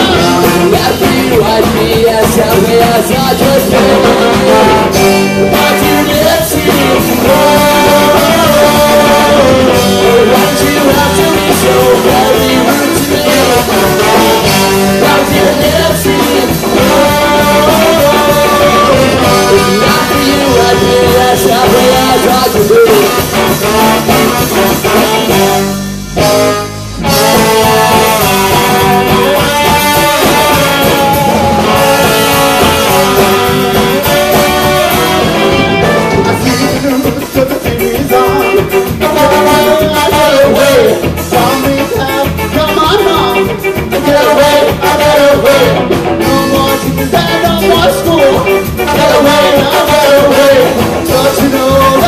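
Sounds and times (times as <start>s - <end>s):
ska band playing instrumental: 0.0s - 52.0s
trombone and saxophone melody: 0.0s - 52.0s.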